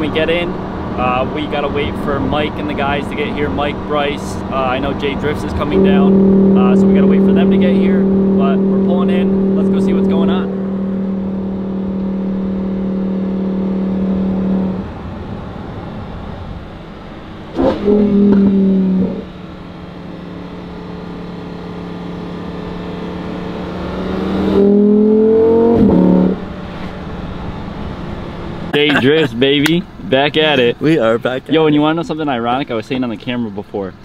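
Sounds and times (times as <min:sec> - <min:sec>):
sports car engine revving: 0:00.0 - 0:29.1.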